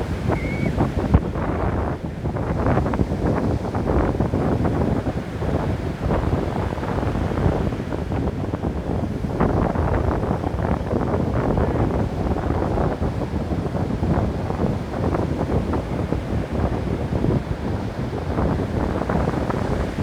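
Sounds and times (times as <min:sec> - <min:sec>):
waves crashing on beach: 0:00.0 - 0:20.0.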